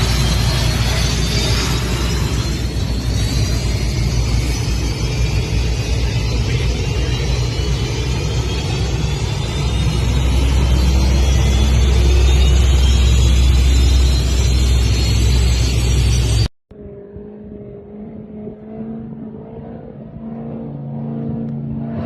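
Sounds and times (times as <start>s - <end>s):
powerboat engine drone: 0.0s - 22.0s.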